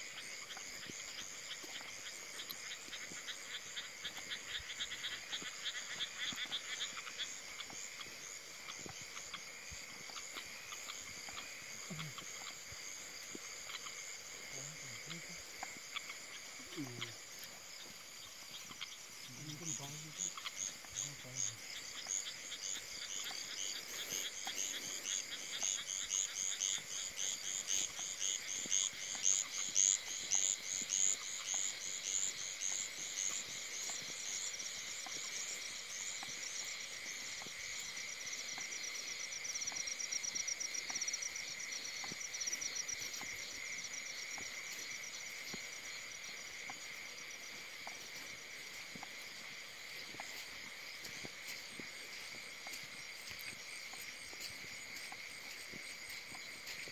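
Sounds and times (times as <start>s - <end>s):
frogs calling: 0.0s - 56.9s
high insect drone: 0.0s - 56.9s.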